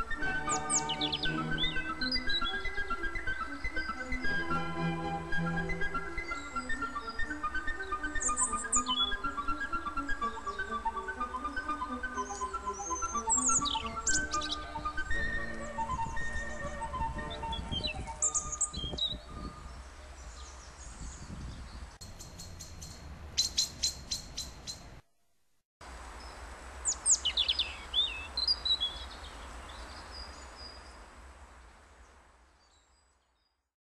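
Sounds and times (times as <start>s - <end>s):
small songbirds chirping: 0.0s - 25.0s, 26.1s - 31.2s, 32.0s - 33.6s.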